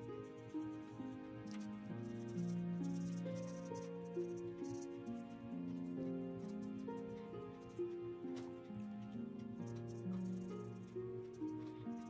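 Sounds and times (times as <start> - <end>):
slow sustained background music: 0.0 - 12.0.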